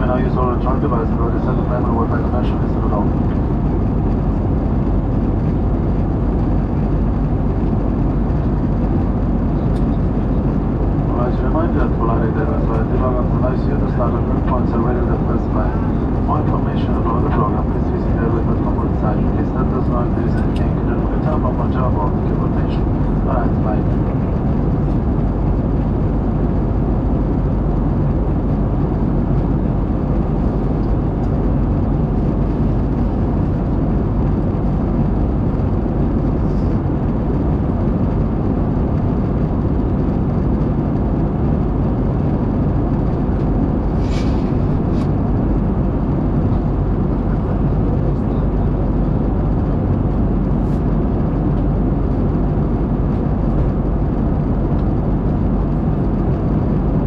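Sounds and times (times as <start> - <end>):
airplane cabin engine noise: 0.0 - 57.0.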